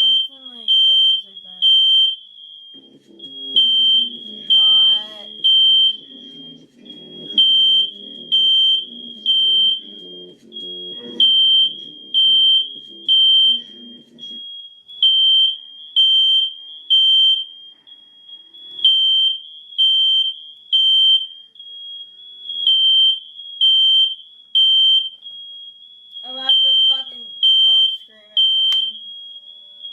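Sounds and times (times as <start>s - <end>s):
fire alarm beeping: 0.0s - 29.9s.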